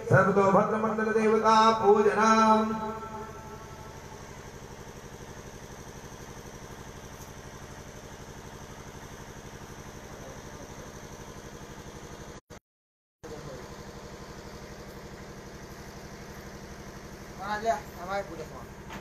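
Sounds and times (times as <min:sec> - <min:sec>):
engine idling: 0:00.0 - 0:12.4, 0:13.2 - 0:19.0.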